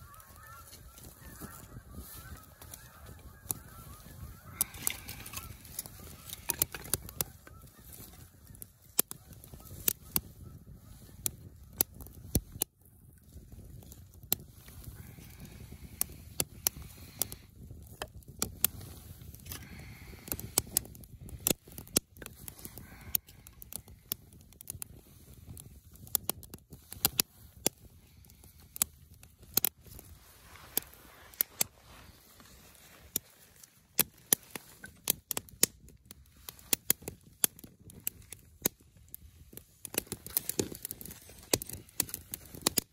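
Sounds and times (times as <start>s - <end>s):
small fire crackling and popping: 0.0s - 42.9s.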